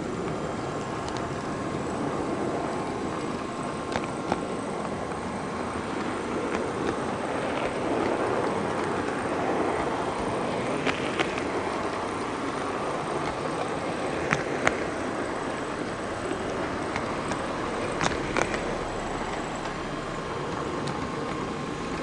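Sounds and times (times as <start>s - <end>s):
model train rumbling on track: 0.0s - 22.0s
sharp track clicks: 0.0s - 22.0s.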